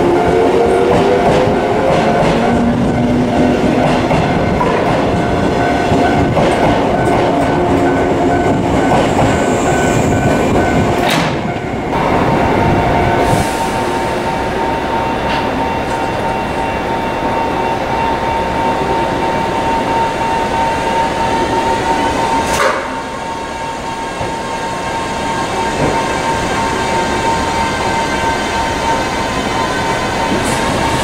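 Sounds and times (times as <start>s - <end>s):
electric train rolling: 0.0s - 31.0s.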